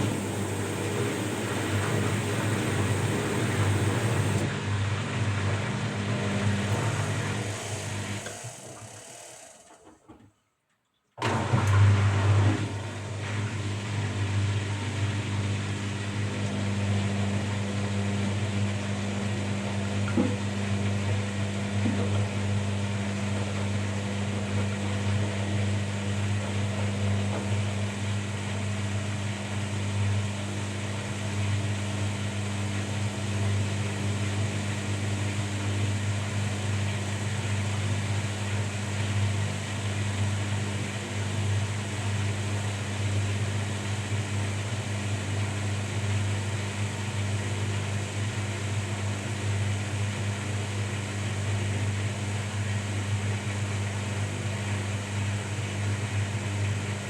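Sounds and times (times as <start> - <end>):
washing machine running: 0.0 - 9.8, 11.2 - 57.0.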